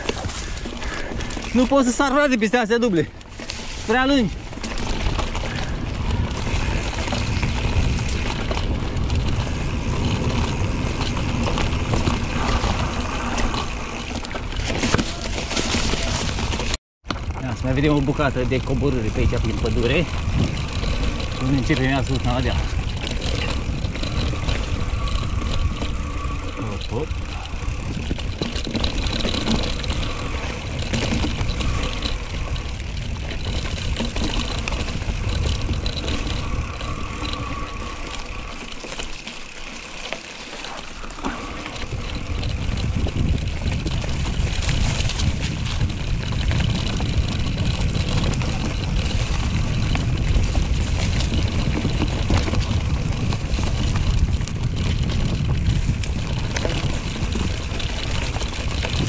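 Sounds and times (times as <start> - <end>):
bike rattling over rough trail: 0.0 - 59.0
wind buffeting microphone: 3.9 - 39.0, 41.0 - 59.0.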